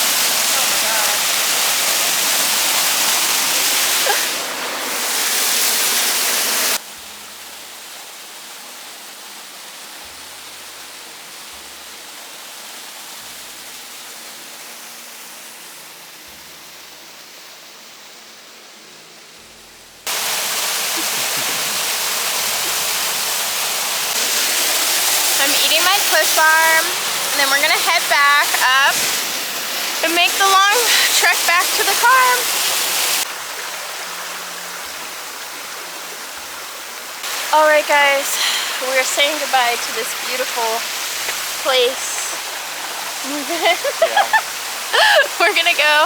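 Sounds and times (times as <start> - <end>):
waterfall rushing: 0.0 - 18.6, 19.4 - 46.0.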